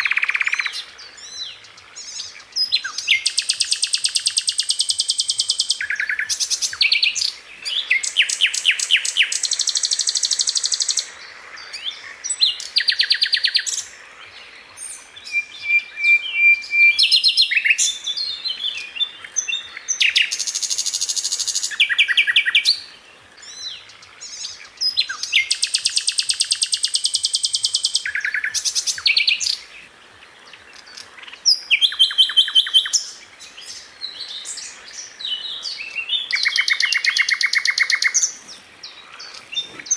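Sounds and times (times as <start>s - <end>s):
songbird singing fast trills: 0.0s - 39.9s.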